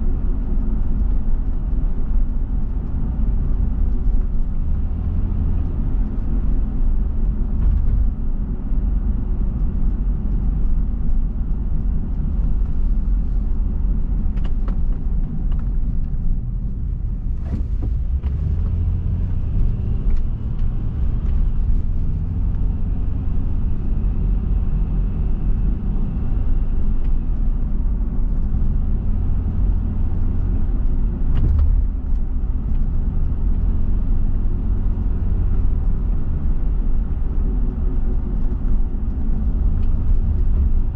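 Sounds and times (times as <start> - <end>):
car tyres and engine rumble: 0.0 - 40.9.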